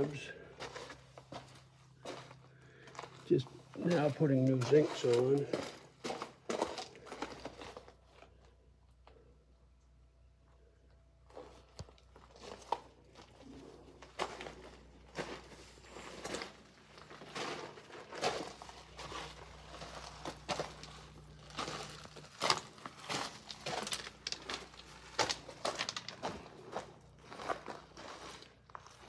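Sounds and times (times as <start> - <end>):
footsteps crunching on gravel: 0.0 - 8.5, 11.3 - 29.0.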